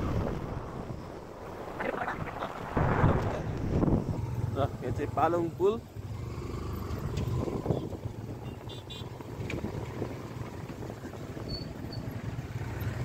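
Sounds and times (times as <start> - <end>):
road rumble: 0.0 - 13.0.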